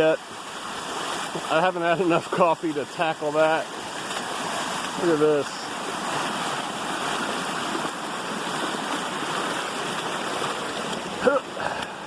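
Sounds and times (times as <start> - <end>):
rainwater rushing in stream: 0.0 - 12.0.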